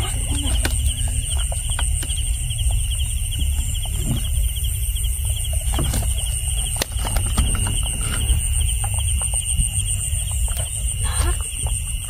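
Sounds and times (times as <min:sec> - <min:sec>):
low rumble: 0:00.0 - 0:12.0
night insects trilling: 0:00.0 - 0:12.0.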